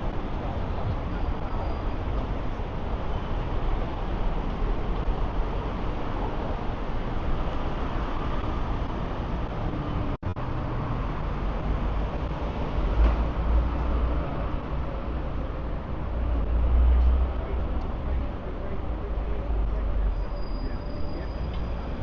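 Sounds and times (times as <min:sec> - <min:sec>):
passing vehicles rumbling: 0:00.0 - 0:22.0.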